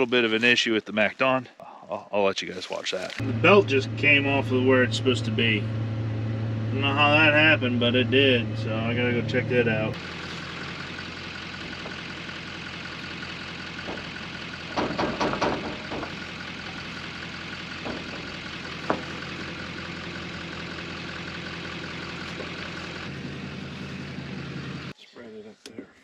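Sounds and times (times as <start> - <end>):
diesel engine idling: 3.2 - 25.0.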